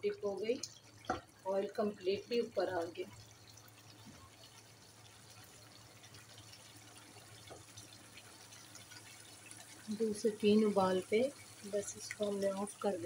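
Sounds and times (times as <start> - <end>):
gravy bubbling in a frying pan: 0.0 - 13.0.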